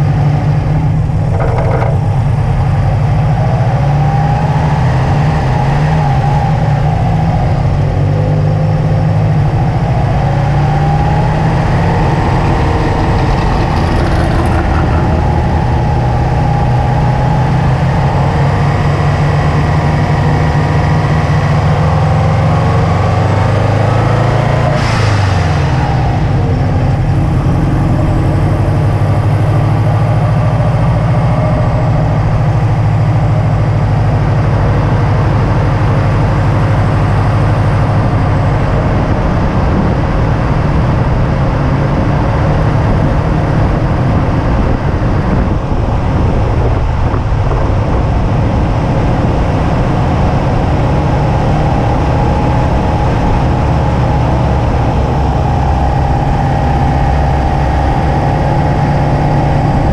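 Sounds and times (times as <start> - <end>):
car engine cruising: 0.0 - 59.9
road and wind noise: 0.0 - 59.9.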